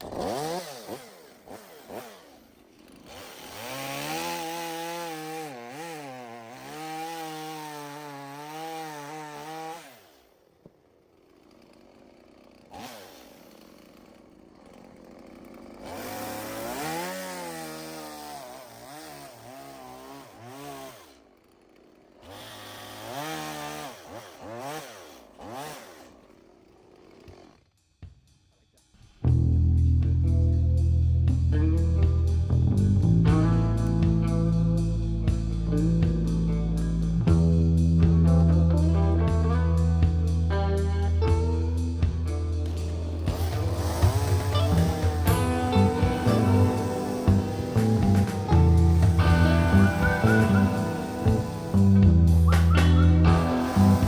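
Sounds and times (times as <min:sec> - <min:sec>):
chainsaw cutting wood: 0:00.0 - 0:28.1, 0:33.0 - 0:54.0.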